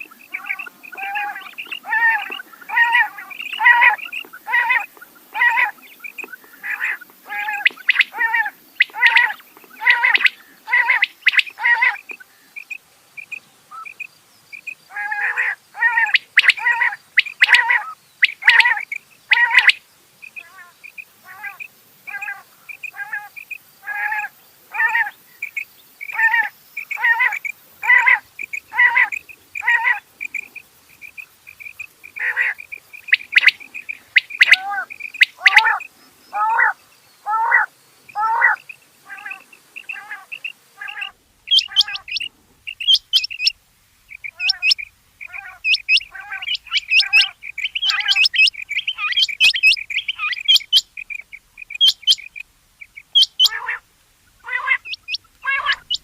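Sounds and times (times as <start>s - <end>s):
quail calling: 0.0s - 12.8s, 13.7s - 14.1s, 14.9s - 56.0s.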